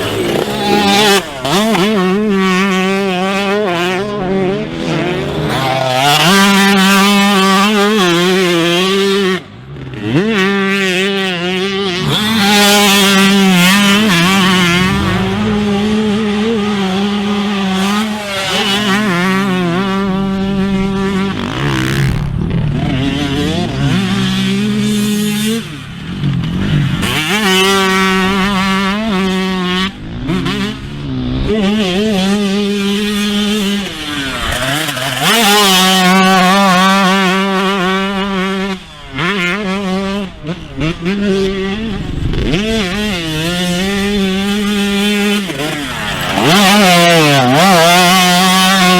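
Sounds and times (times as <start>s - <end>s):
motorcycle engine revving high: 0.0s - 48.9s.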